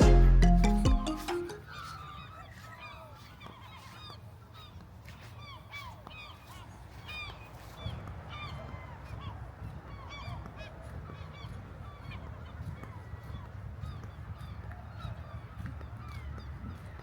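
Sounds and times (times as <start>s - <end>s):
birds squawking: 0.7s - 16.5s.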